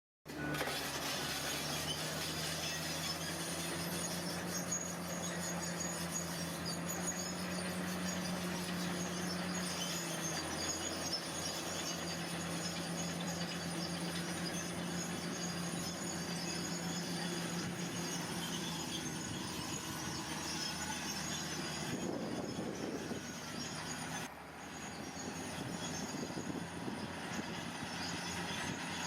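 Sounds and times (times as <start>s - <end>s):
diesel earthmoving machine running: 0.3s - 29.0s
high metallic squeaks: 0.3s - 29.0s.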